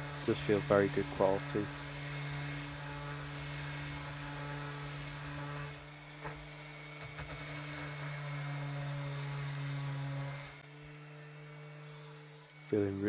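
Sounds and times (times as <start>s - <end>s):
orbital sander running: 0.0s - 13.0s.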